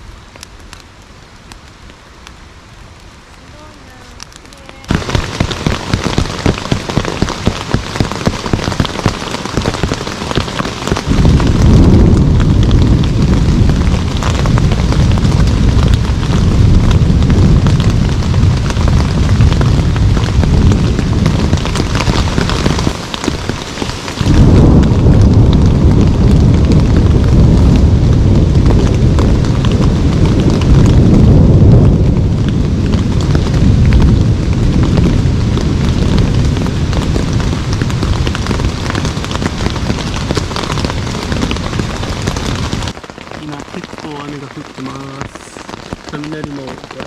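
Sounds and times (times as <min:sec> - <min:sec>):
heavy rain: 0:00.0 - 0:47.0
low roll of thunder: 0:04.8 - 0:47.0.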